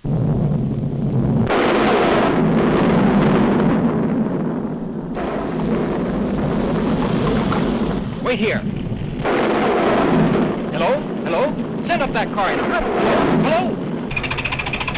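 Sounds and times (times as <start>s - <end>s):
cartoon volcano eruption: 0.0s - 14.9s.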